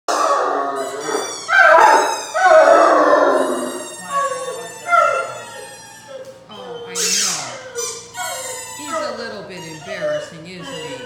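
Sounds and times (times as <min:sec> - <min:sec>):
dog howling: 0:00.1 - 0:11.0.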